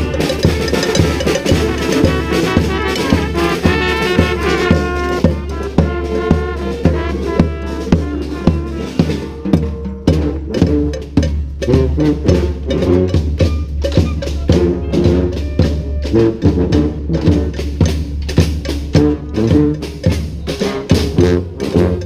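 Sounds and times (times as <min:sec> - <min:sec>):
bass drum snare and hand percussion: 0:00.0 - 0:22.0
brass band playing cumbia: 0:00.0 - 0:22.0.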